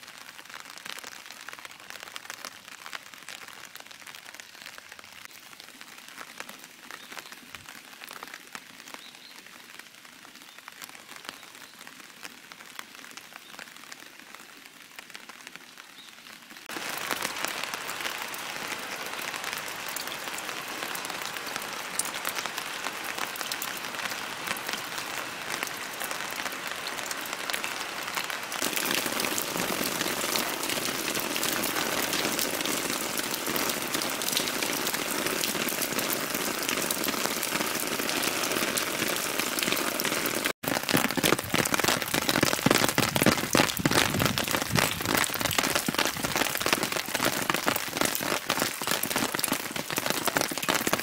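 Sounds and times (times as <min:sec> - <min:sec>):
rain falling: 0:00.0 - 0:51.0
raindrops splashing on a pond: 0:00.0 - 0:51.0.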